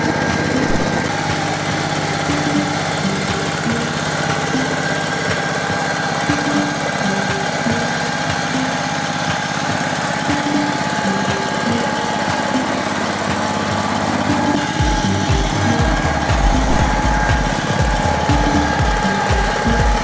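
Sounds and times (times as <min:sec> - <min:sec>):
hand tractor engine chugging: 0:00.0 - 0:20.0.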